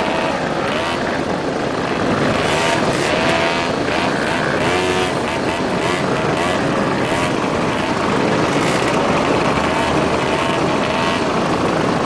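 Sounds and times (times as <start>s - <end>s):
moped engines running: 0.0s - 12.0s.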